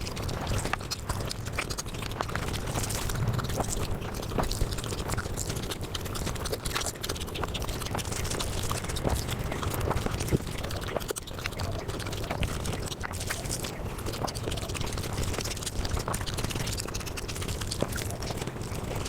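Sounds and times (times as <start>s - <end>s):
sped-up chewing and lip-smacking: 0.0s - 19.0s.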